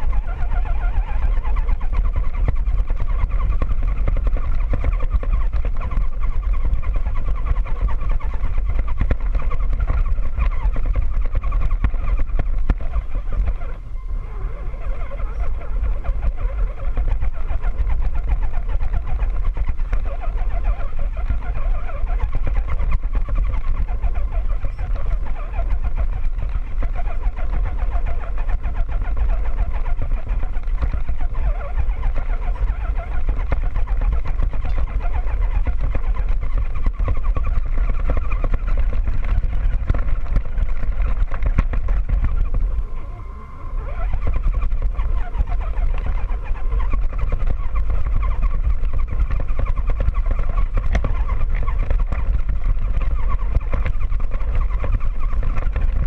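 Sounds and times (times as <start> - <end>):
chassis rumbling over ground: 0.0 - 56.0.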